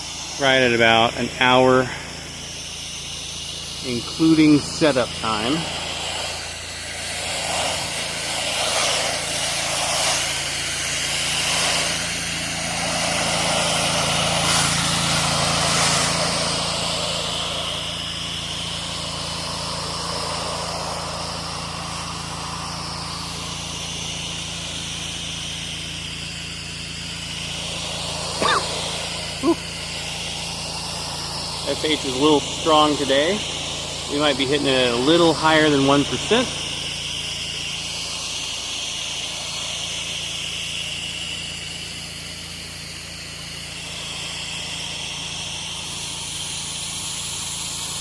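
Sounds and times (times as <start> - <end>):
pressure washer engine running: 0.0 - 48.0
water spray hissing: 0.0 - 48.0.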